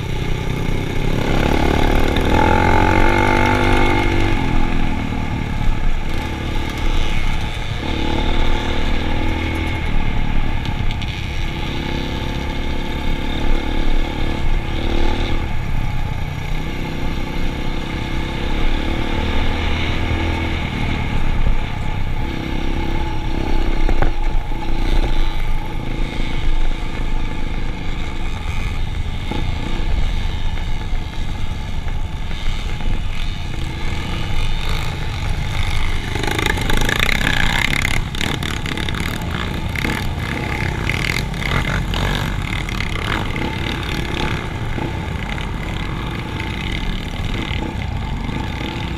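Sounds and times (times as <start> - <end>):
motorcycle engines running: 0.0 - 48.9.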